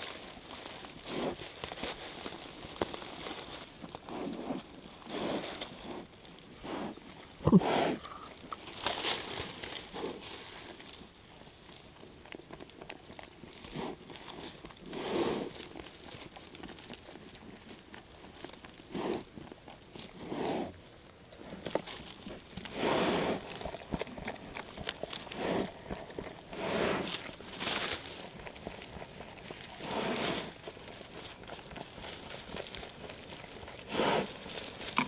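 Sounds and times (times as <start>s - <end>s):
bear rustling in dry leaves: 0.0s - 6.9s, 8.4s - 12.0s, 13.4s - 20.6s, 24.6s - 35.0s.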